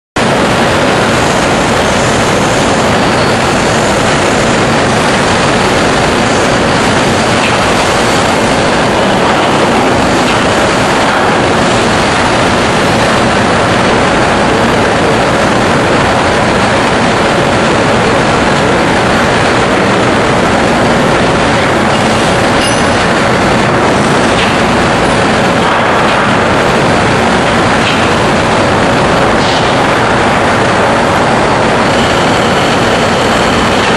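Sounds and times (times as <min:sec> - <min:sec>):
cnc machine running: 0:00.2 - 0:33.9.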